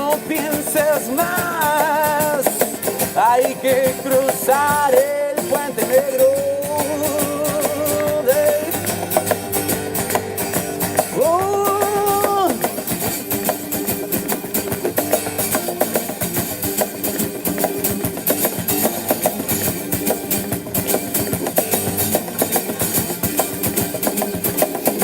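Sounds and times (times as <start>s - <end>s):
driving rock guitar: 0.0s - 25.0s.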